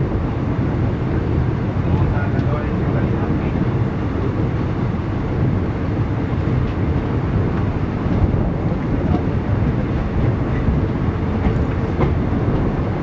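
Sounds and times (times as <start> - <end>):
moving train rumble: 0.0 - 13.0
wind buffeting microphone: 0.0 - 13.0.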